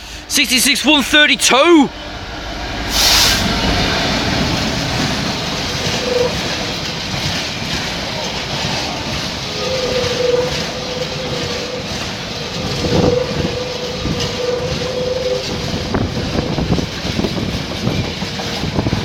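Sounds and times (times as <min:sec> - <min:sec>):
pulsing whine: 0:00.0 - 0:16.9
freight train wagons rumbling: 0:00.0 - 0:19.0
train wheels knocking: 0:00.0 - 0:19.0.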